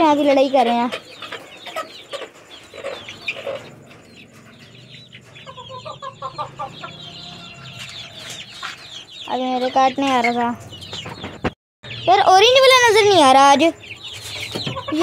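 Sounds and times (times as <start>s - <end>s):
chicken clucking: 0.0s - 15.0s
chicks peeping: 0.0s - 15.0s.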